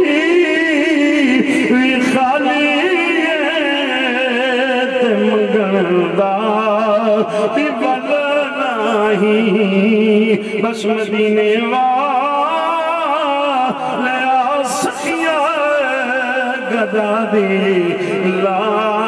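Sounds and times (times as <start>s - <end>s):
man chanting devotional song: 0.0s - 19.0s.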